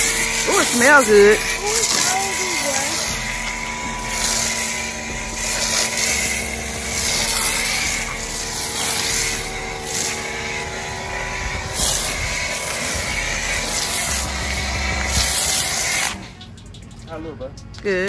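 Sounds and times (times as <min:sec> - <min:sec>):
spray hissing: 0:00.0 - 0:16.3
pressure washer motor humming: 0:00.0 - 0:18.0.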